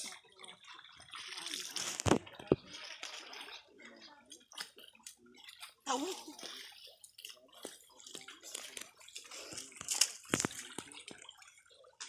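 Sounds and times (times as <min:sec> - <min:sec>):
river water sloshing and dripping: 0:00.0 - 0:12.0
water splashes: 0:00.0 - 0:12.0.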